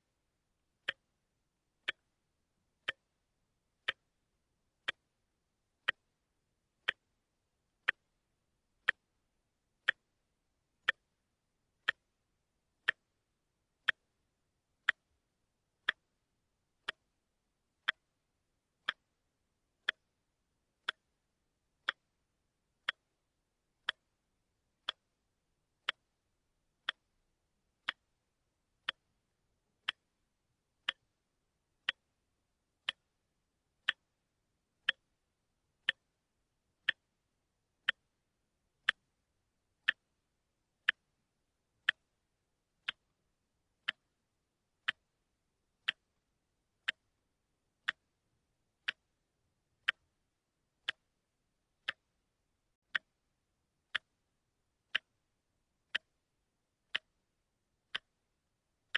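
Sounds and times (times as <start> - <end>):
wristwatch ticking: 0.6 - 58.9.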